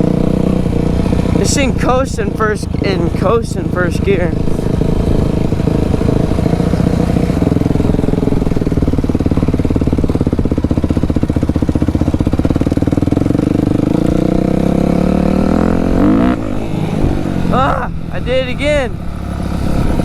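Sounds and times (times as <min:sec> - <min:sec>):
dirt bike engine running hard: 0:00.0 - 0:20.0.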